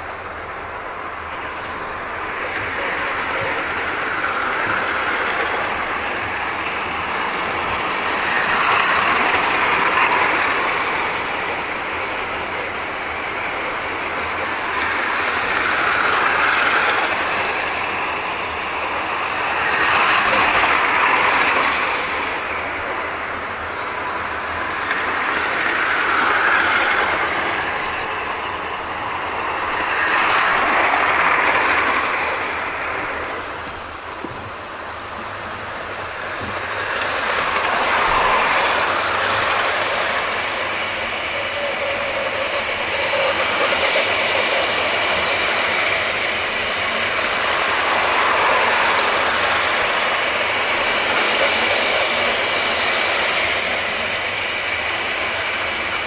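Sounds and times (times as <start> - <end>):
model trains whirring on rails: 0.0 - 56.0.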